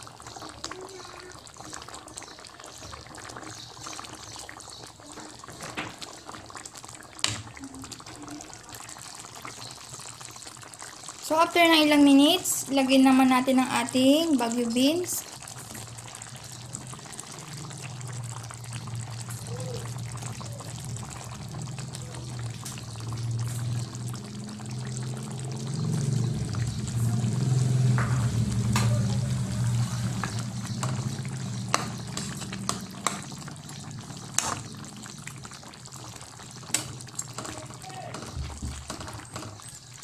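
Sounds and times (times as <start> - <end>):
sauce simmering and bubbling: 0.0 - 40.0.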